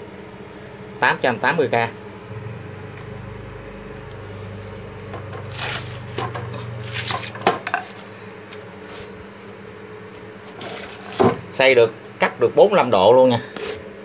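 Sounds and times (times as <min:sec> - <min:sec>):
low steady hum: 0:00.0 - 0:13.5.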